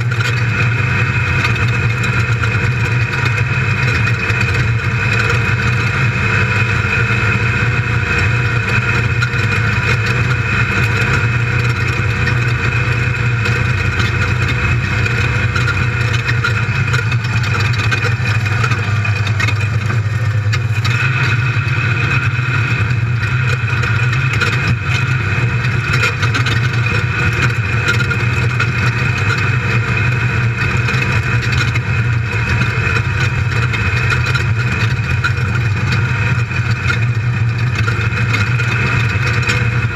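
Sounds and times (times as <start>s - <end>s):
car driving over dirt: 0.0s - 39.9s
car engine droning: 0.0s - 39.9s.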